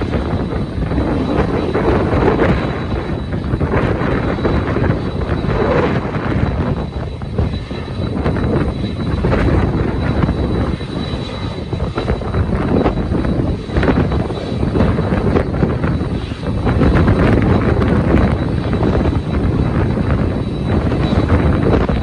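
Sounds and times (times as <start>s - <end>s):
jet engines running: 0.0s - 22.0s
wind buffeting microphone: 0.0s - 22.0s.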